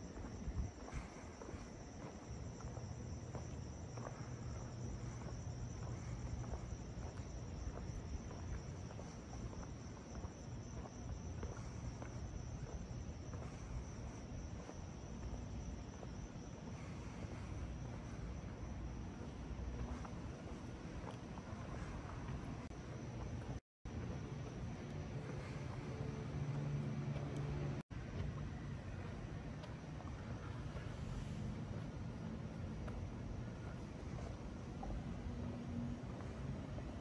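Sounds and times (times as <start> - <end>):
crickets chirring: 0.0 - 37.0
faint footsteps: 0.0 - 37.0.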